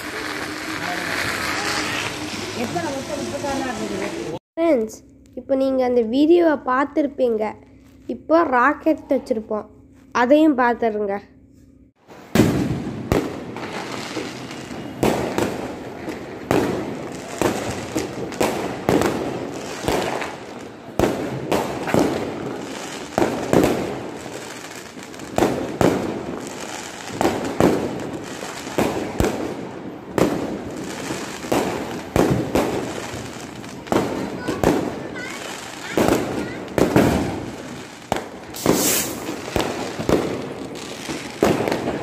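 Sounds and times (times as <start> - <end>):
firecrackers banging: 0.0 - 4.8, 12.0 - 42.0.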